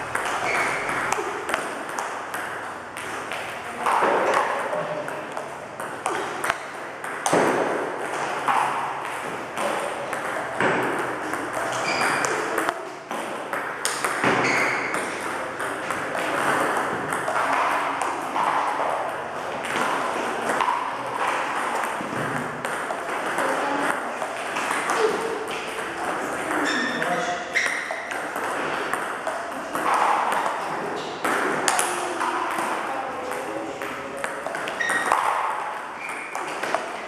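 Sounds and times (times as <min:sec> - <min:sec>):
ball bouncing on table: 0:00.1 - 0:19.0, 0:19.6 - 0:36.9.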